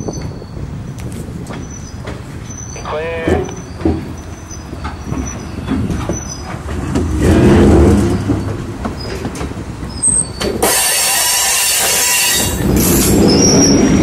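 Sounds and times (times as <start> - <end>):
freight car rumbling on rails: 0.0 - 14.0
steel wheels squealing on rail: 0.0 - 14.0
wheels clicking over track: 1.0 - 14.0.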